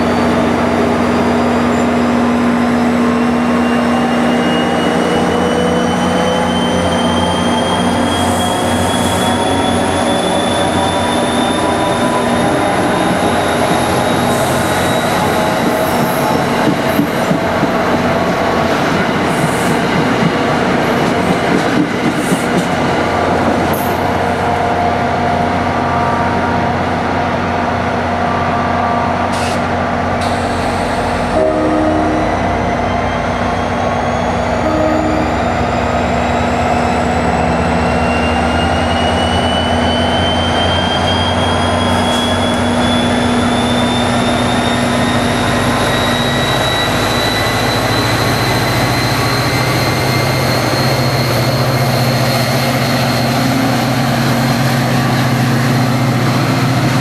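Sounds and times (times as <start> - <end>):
train whine rising in pitch: 0.0 - 20.3, 30.2 - 57.0
train running at close range: 0.0 - 57.0.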